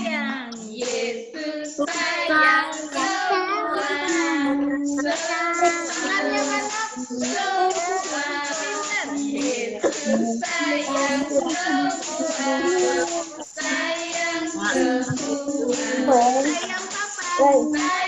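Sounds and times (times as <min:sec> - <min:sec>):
child singing: 0:00.0 - 0:18.0.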